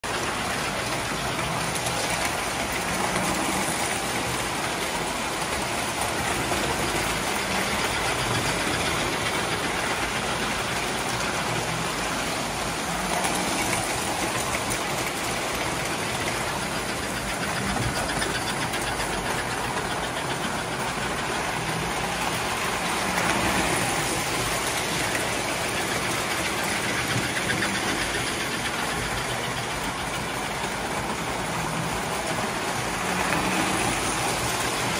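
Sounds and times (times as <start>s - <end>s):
metal wheels clattering on rails: 0.0s - 34.9s.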